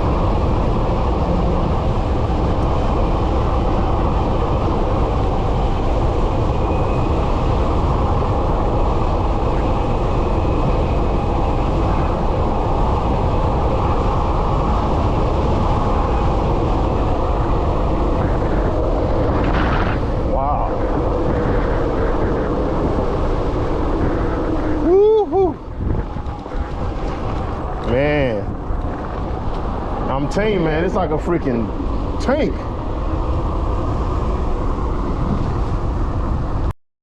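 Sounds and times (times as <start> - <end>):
faint high motor whine: 0.0 - 35.9
wind noise on microphone: 0.0 - 36.7.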